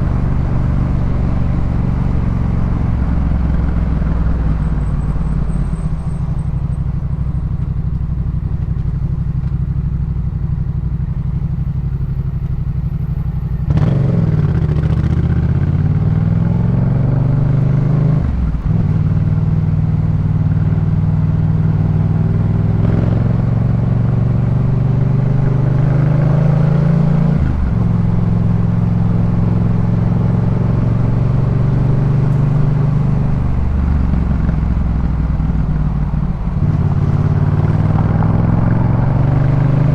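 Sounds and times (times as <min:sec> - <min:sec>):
motorcycle engine revving: 0:00.0 - 0:09.3, 0:13.5 - 0:39.9.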